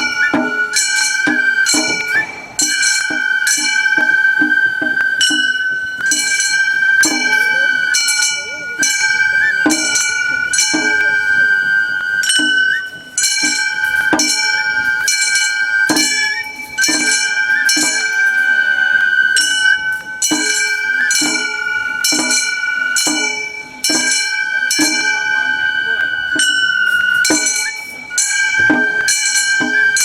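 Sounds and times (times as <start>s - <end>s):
bamboo flute melody: 0.0s - 30.0s.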